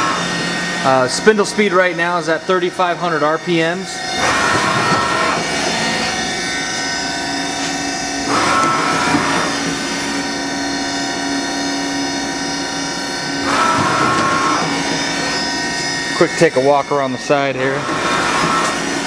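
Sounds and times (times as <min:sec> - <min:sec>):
machine hum: 0:00.0 - 0:19.0
whining rushing sound: 0:00.0 - 0:19.0.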